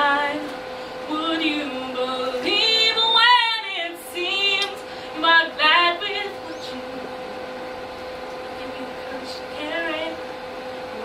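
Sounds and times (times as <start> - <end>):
woman singing: 0.0 - 7.5, 8.5 - 10.3
steady held tone: 0.0 - 11.0.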